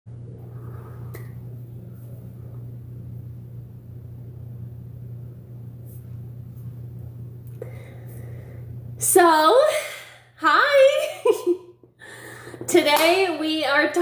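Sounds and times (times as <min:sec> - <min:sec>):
low room hum: 0:00.1 - 0:14.0.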